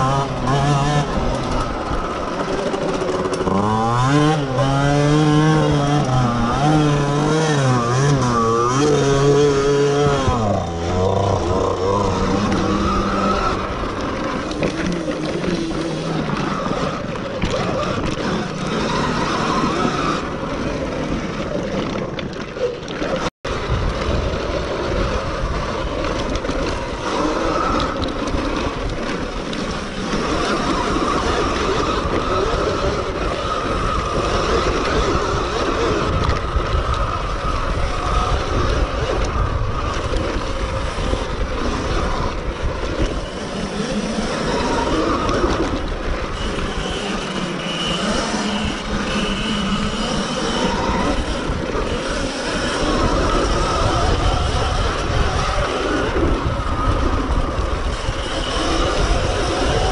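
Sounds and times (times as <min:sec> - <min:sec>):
electric motor whine: 0:00.0 - 0:21.7, 0:23.5 - 0:59.9
wind rush and riding noise: 0:00.0 - 0:59.9.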